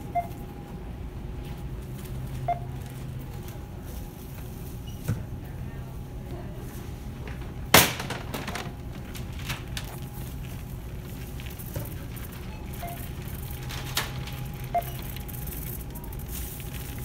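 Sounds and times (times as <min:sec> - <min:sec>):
store background hum: 0:00.0 - 0:17.0.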